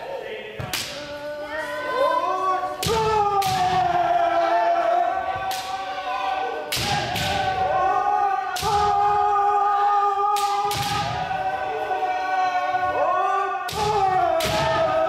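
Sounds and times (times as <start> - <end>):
people shouting drawn-out cries: 1.0 - 15.0.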